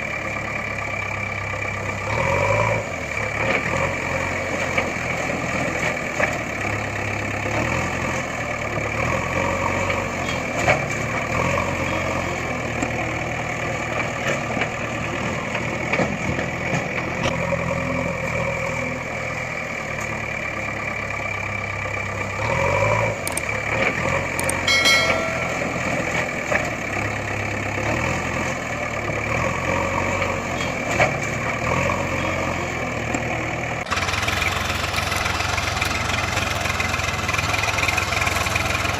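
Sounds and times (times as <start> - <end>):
engine chugging: 0.0 - 38.9.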